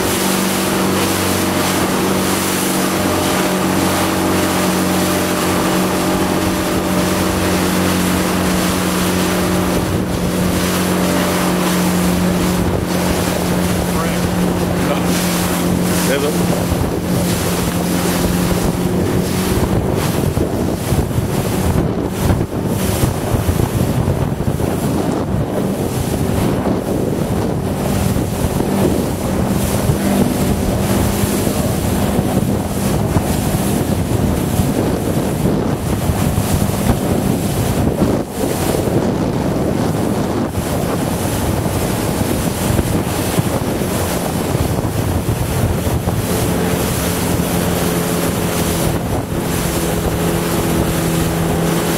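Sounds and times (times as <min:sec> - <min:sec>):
boat engine humming: 0:00.0 - 0:51.9
water splashing past a boat hull: 0:00.0 - 0:51.9
wind buffeting microphone: 0:00.0 - 0:51.9.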